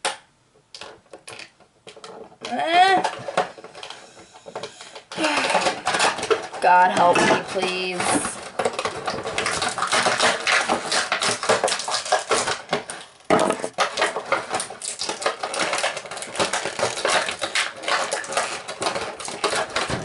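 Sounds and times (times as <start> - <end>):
plastic packaging crinkling: 3.0 - 20.0.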